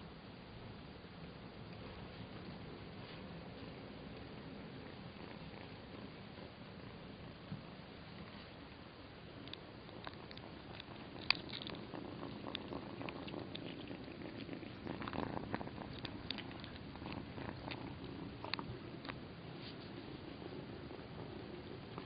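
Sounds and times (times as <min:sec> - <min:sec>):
low purr: 0:00.0 - 0:22.0
kitten crunching dry kibble: 0:01.6 - 0:22.0.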